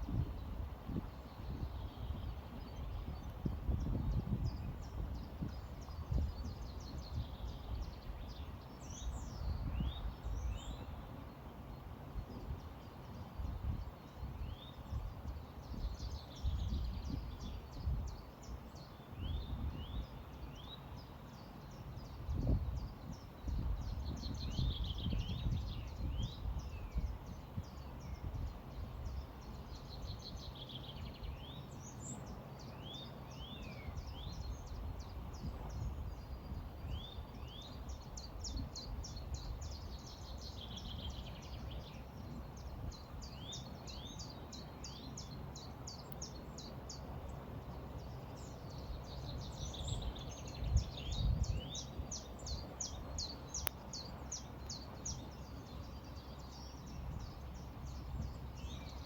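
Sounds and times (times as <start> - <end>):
birds singing and calling: 11.7 - 59.0.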